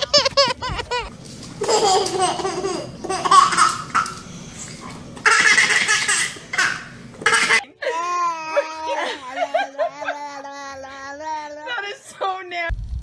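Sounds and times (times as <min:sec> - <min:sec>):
baby laughing: 0:00.0 - 0:04.2, 0:05.2 - 0:12.0.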